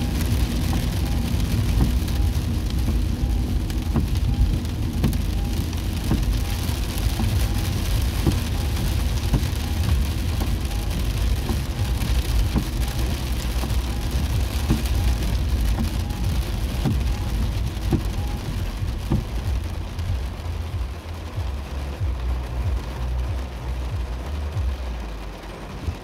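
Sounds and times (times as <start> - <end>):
engine and tyres rumbling: 0.0 - 26.0
rain on car windshield and roof: 0.0 - 26.0
windshield wipers sweeping: 0.0 - 26.0.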